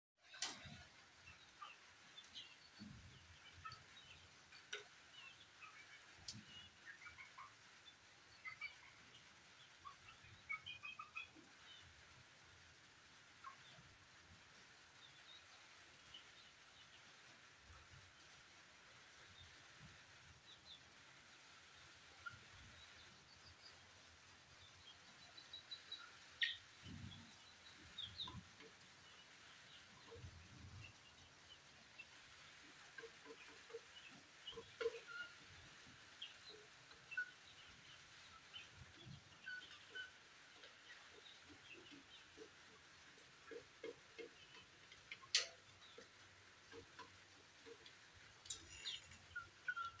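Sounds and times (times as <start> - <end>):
chickens peeping and chirping: 0.3 - 50.0.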